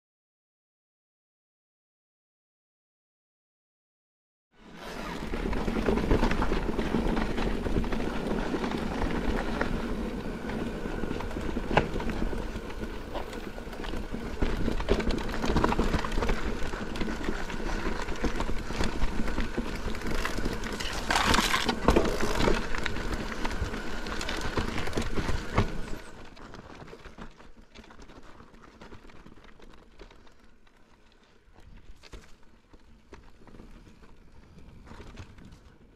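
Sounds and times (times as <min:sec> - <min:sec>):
bike tyres on trail: 0:04.6 - 0:35.9
bike knocking and rattling: 0:04.7 - 0:35.9.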